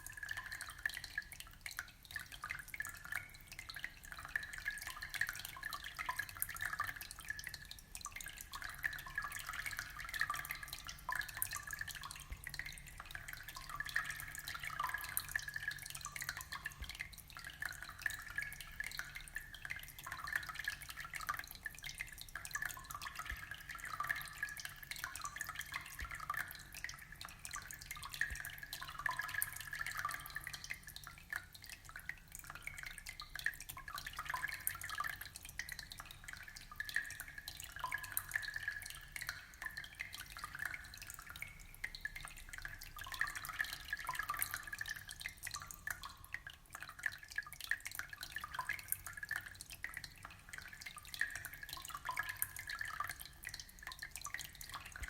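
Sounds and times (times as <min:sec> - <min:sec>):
aquarium water trickling and bubbling: 0:00.0 - 0:55.0.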